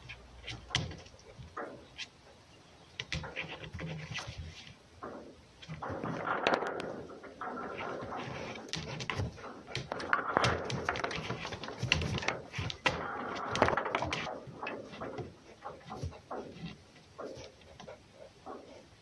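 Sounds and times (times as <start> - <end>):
fox throaty sounds: 0.0 - 2.4, 3.0 - 19.0.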